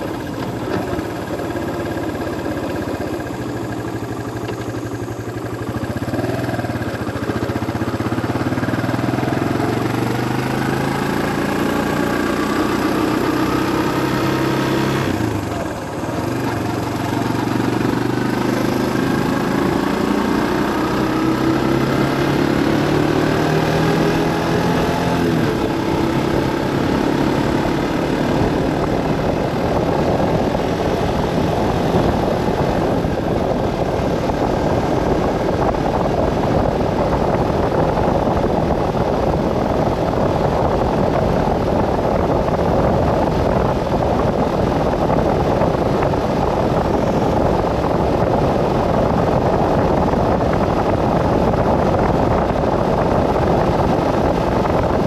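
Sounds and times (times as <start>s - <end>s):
road and wind noise: 0.0s - 55.0s
vehicle engine: 0.0s - 55.0s.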